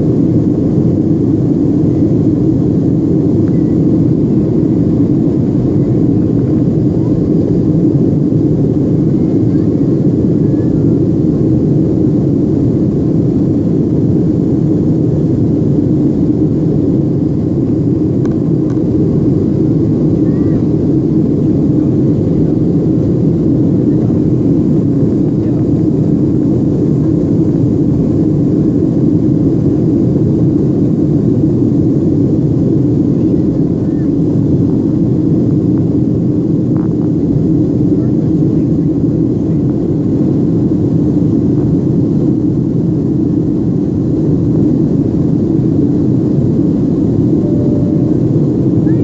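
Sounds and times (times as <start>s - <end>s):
airplane cabin engine drone: 0.0s - 49.0s.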